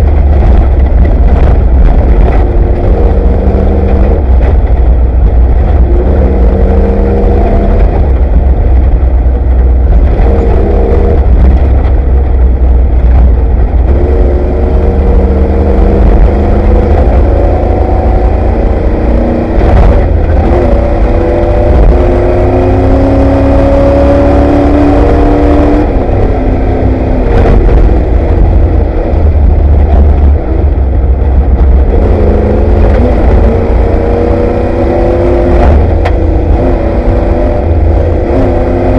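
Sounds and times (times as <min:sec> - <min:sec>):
engine revving from inside vehicle: 0:00.0 - 0:38.9
heavy low rumble: 0:00.0 - 0:38.9.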